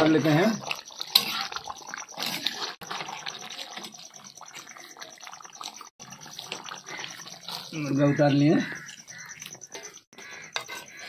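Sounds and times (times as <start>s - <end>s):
curry bubbling and simmering: 0.0s - 11.0s.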